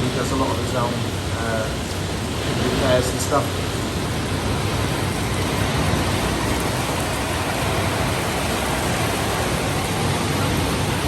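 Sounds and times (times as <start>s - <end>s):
heavy rain pouring: 0.0s - 11.0s
water running off roofs: 0.0s - 11.0s.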